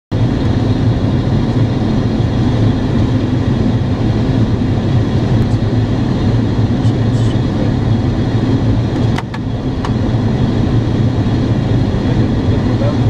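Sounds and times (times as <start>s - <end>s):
jet cockpit drone: 0.1s - 13.0s.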